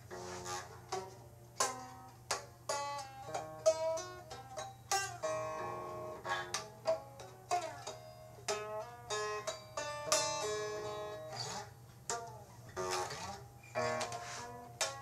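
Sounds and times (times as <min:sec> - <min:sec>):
plucked string instrument notes: 0:00.0 - 0:15.0.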